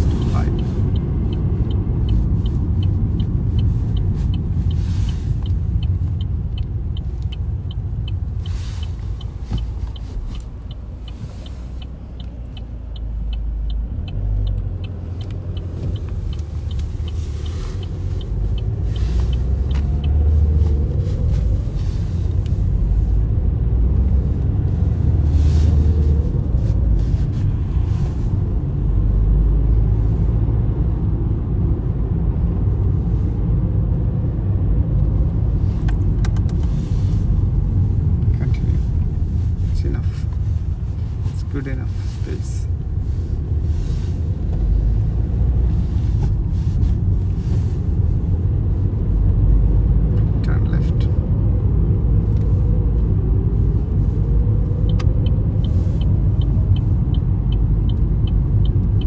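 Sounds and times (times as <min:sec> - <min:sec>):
car engine and tyre rumble: 0:00.0 - 0:59.0
turn signal ticking: 0:00.0 - 0:59.0.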